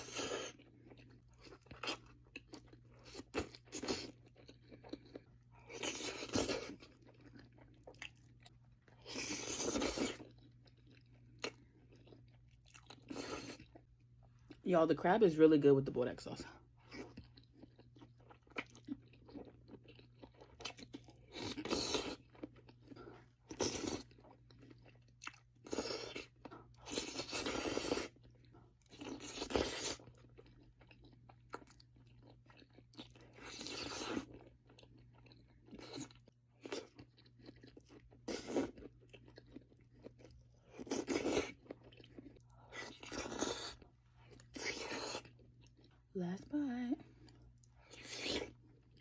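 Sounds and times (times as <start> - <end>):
close chewing and eating: 0.0 - 49.0.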